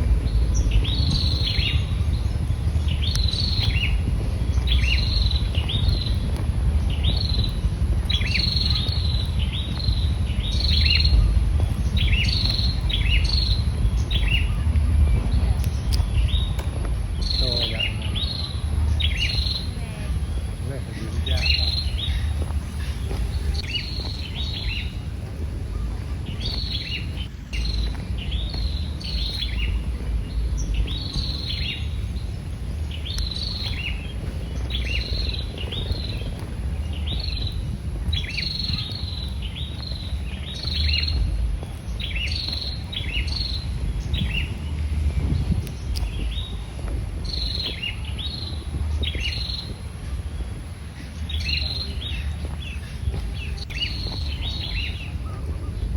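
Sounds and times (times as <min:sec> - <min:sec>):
small birds chirping: 0:00.0 - 0:55.9
steady low rumble: 0:00.0 - 0:55.9.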